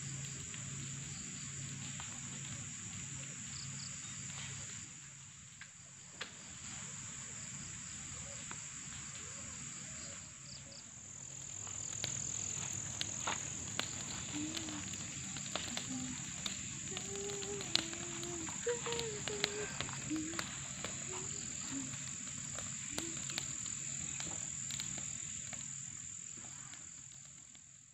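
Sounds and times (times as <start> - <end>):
crickets chirping: 0.0 - 27.9
small fire crackling: 0.0 - 27.9.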